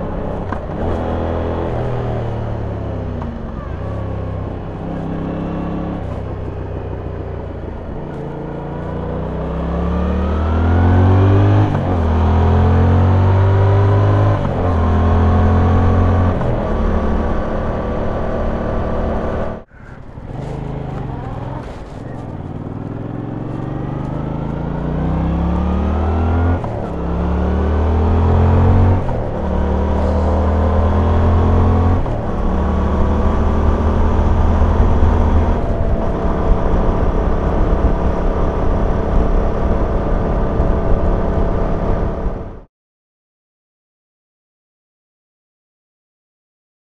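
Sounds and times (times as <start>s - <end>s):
motorcycle engine accelerating: 0.0s - 42.7s.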